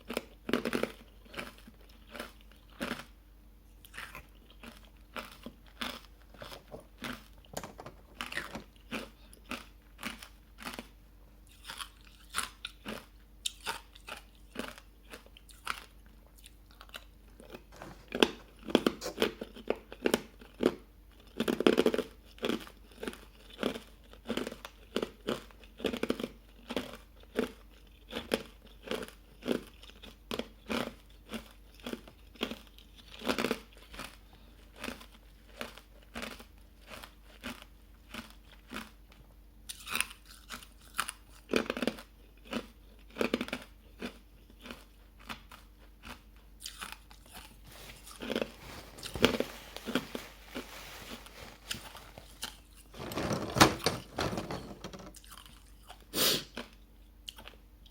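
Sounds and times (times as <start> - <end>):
ice being chewed: 0.0 - 3.2, 3.8 - 7.5, 8.2 - 53.0.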